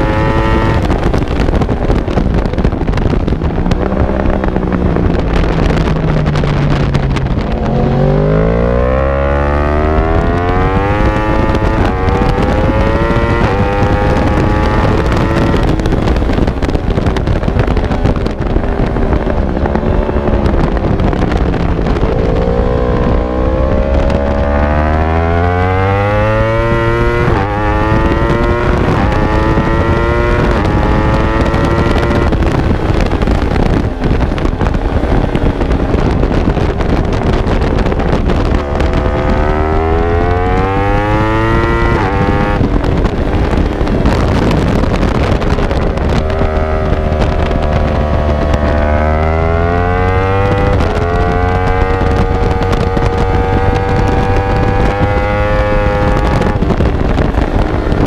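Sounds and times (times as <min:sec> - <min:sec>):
motorcycle engine accelerating: 0:00.0 - 0:58.0
wind rush on microphone: 0:00.0 - 0:58.0.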